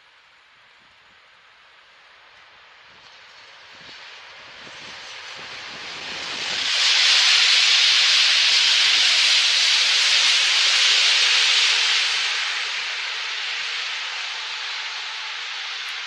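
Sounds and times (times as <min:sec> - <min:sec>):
train wheels hissing on rails: 0:00.9 - 0:16.0.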